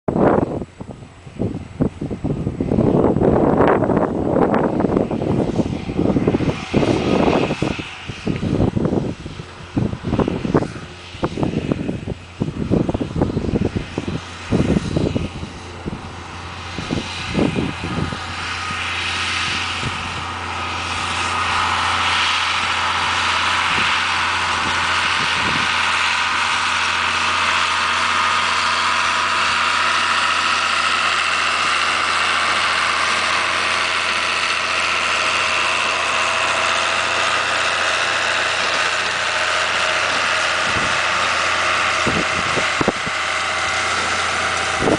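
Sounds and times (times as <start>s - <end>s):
diesel tractor engine under load: 0.1s - 44.9s
wind gusts on microphone: 0.1s - 44.9s.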